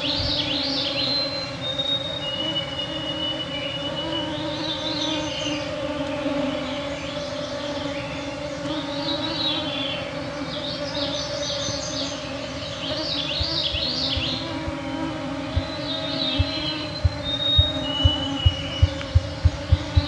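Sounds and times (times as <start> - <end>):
mosquitoes whining: 0.0 - 20.0
songbirds singing: 0.0 - 20.0.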